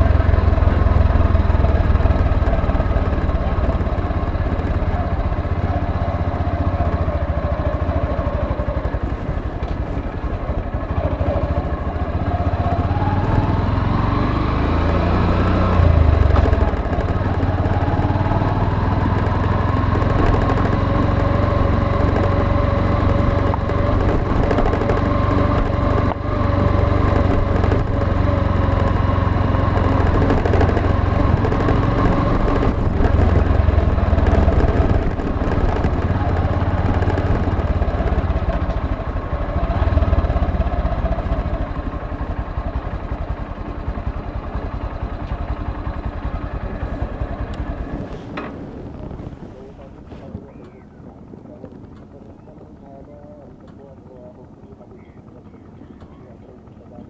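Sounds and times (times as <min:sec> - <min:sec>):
motorcycle engine revving: 0:00.0 - 0:50.4.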